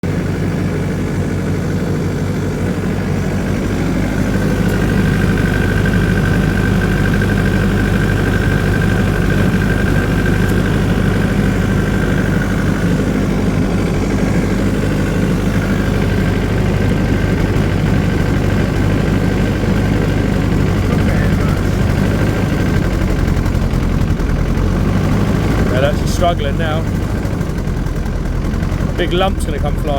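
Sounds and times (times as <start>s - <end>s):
diesel generator engine drone: 0.0s - 29.9s.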